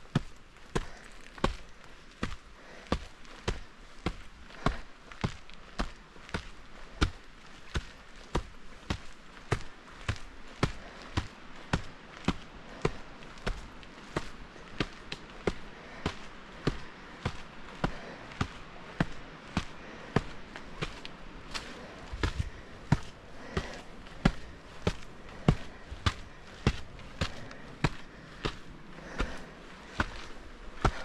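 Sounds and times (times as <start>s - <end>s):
footsteps: 0.0s - 31.0s.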